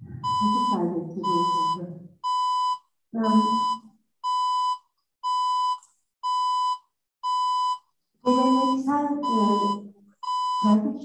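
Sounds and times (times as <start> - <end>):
electronic beeping: 0.0 - 10.8.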